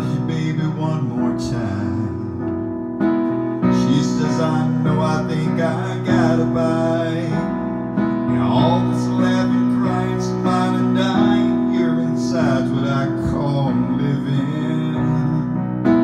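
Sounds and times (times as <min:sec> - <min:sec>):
electronic keyboard chords: 0:00.0 - 0:16.0.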